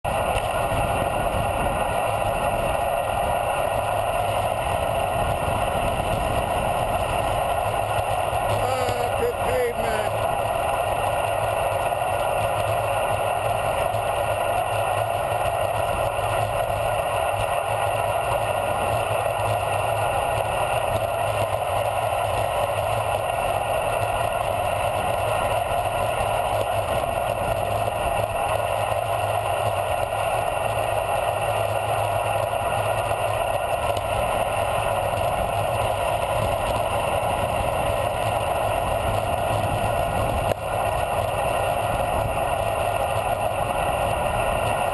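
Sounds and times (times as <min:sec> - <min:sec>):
wind rushing over camera: 0:00.1 - 0:09.3, 0:10.1 - 0:44.9.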